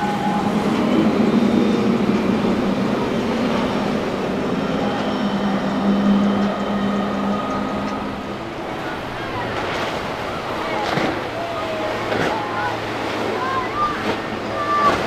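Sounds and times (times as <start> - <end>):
boat engines droning: 0.0 - 15.0
rushing noise: 0.0 - 15.0.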